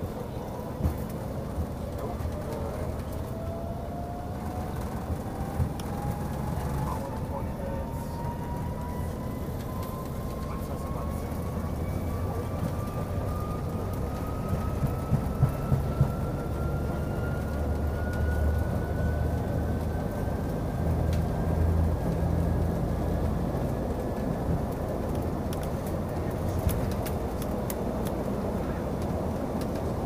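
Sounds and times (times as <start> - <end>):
jet engine whine rising: 0.0 - 30.0
wheels rumbling on runway: 0.0 - 30.0.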